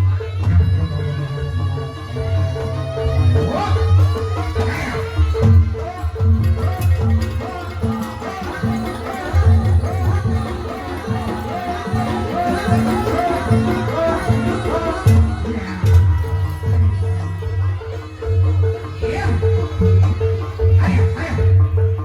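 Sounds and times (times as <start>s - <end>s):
drum strokes: 4.0s - 22.0s.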